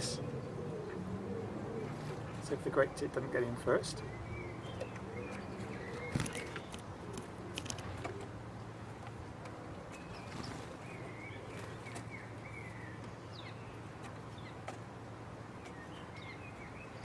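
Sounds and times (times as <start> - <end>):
small birds chirping and twittering: 0.0 - 17.0
steady low hum: 0.0 - 17.0.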